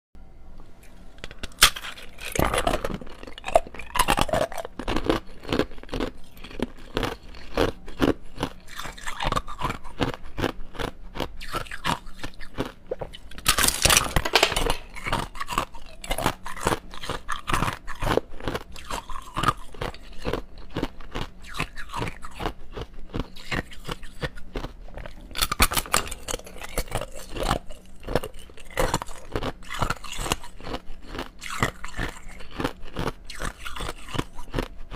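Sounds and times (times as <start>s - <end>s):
ice cubes crunching: 1.2s - 34.7s.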